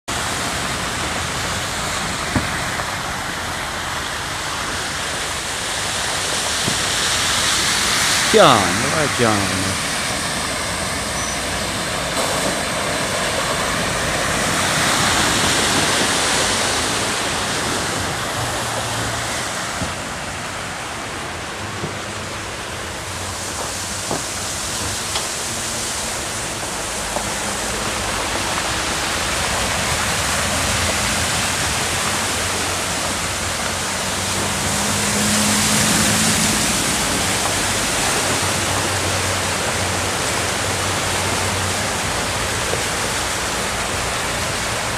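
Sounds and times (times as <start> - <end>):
floodwater rushing: 0.1 - 44.9.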